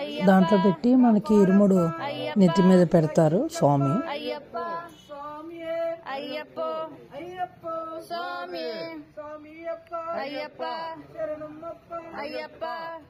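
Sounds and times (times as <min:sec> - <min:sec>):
person singing a chant-like melody: 0:00.0 - 0:13.0.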